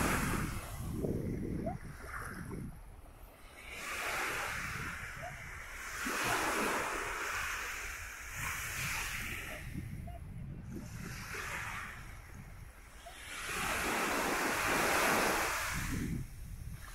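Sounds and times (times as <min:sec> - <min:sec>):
waves washing up a beach: 0:00.0 - 0:16.9
wind rumble on microphone: 0:00.0 - 0:16.9.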